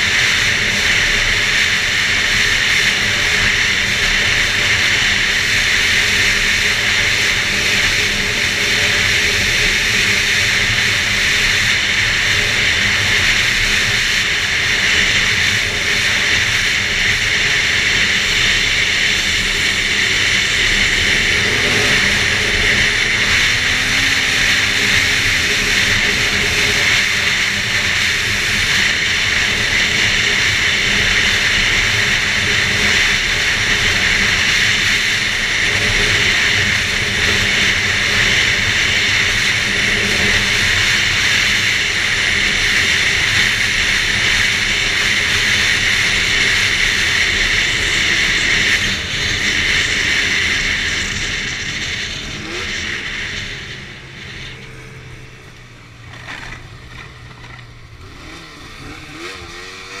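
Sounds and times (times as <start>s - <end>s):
snowmobile engine running: 0.0s - 60.0s.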